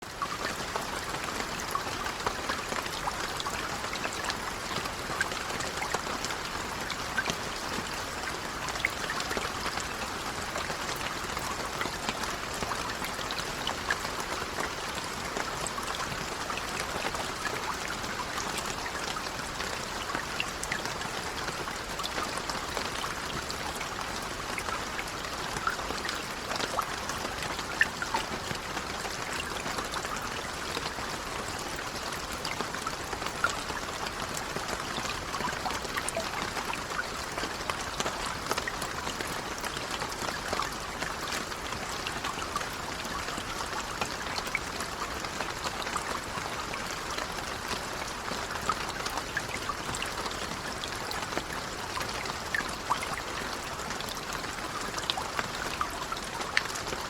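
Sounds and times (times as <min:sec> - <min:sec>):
gentle rain: 0:00.0 - 0:57.0.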